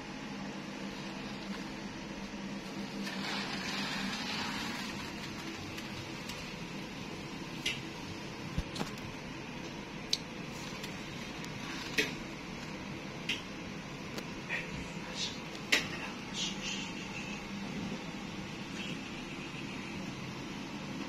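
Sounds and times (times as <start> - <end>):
air conditioning hum: 0.0 - 21.0.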